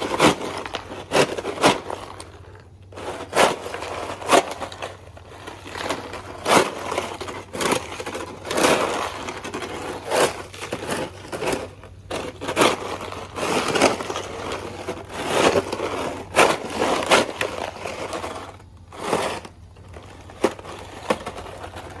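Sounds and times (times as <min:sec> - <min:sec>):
ice cracking and crunching: 0:00.0 - 0:22.0
plastic shovel scraping pavement: 0:00.0 - 0:22.0.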